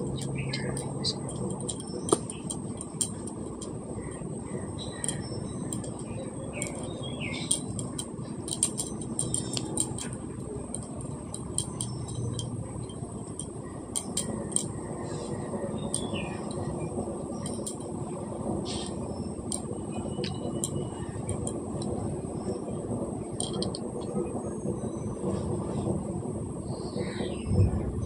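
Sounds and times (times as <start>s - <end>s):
small clicks and rustles: 0.0s - 26.2s
steady background hiss: 0.0s - 28.0s.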